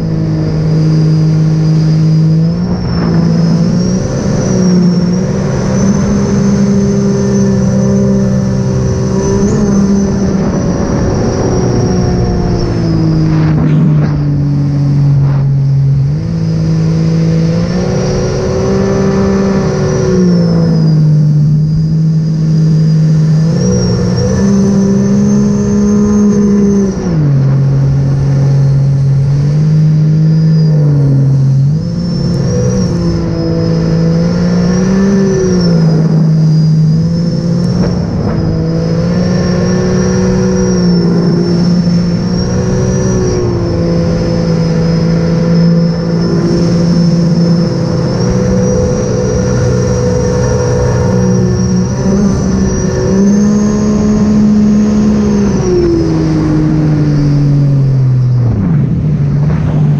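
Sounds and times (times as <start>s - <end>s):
high supercharger whine: 0.0s - 59.9s
jet ski engine revving: 0.0s - 59.9s.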